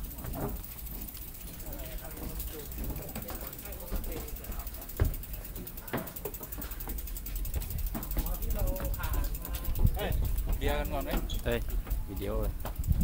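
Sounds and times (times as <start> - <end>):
bicycle freewheel ticking: 0.0 - 13.0.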